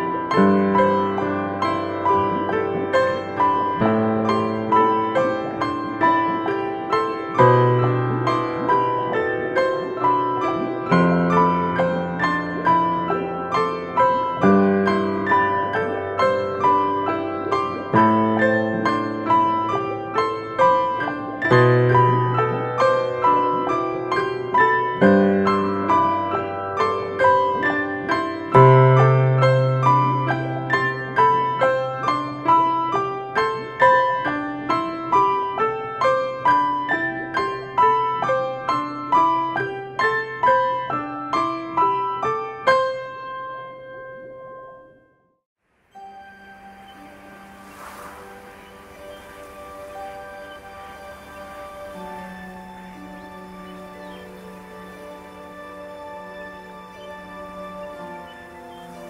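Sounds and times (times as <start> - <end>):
slow relaxing piano music: 0.0 - 59.0.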